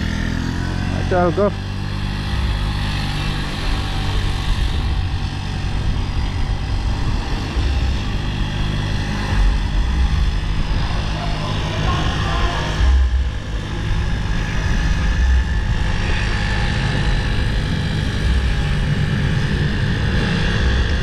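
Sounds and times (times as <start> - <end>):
vehicle engine humming: 0.0 - 21.0
wind and road noise: 0.0 - 21.0.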